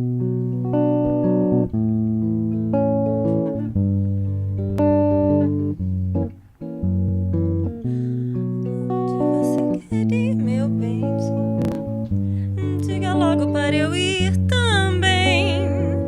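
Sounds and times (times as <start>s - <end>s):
guitar playing plucked chords: 0.0s - 16.0s
low bass line: 0.0s - 16.0s.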